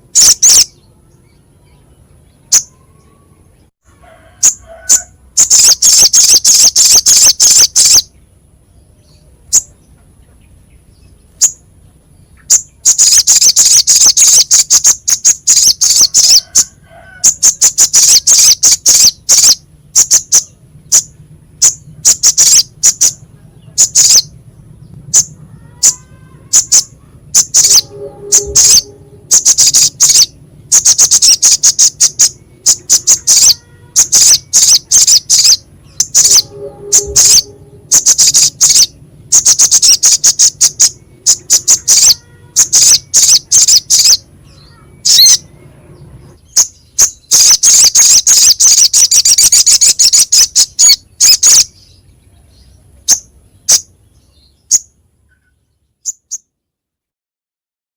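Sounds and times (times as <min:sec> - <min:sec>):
sunbird singing harsh trills: 0:00.0 - 0:03.7, 0:04.4 - 0:56.5.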